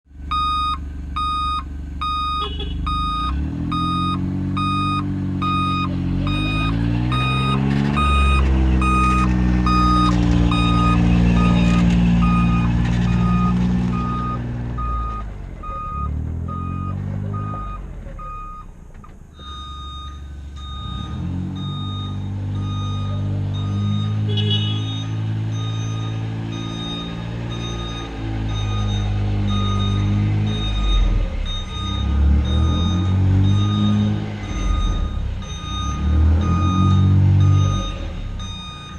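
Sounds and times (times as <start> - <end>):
utility vehicle engine running: 0.1 - 38.9
backup alarm beeping: 0.3 - 18.8, 19.4 - 38.9.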